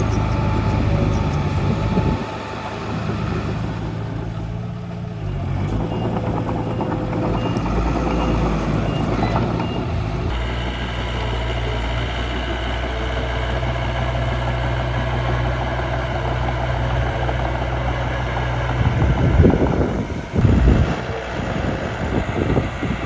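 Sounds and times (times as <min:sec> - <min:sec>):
small construction machine engine: 0:00.0 - 0:23.0.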